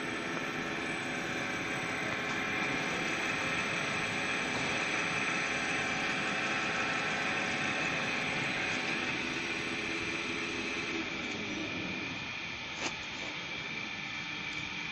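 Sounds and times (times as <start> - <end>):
balancing machine whirring: 0.0 - 14.9.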